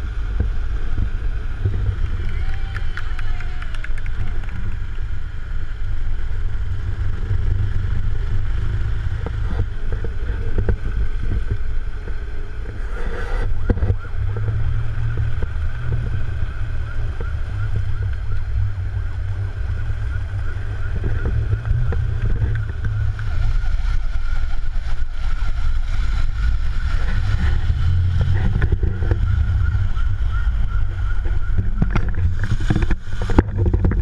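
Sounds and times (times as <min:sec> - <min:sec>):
longboard wheels rumbling on asphalt: 0:00.0 - 0:34.0
wind buffeting microphone: 0:00.0 - 0:34.0.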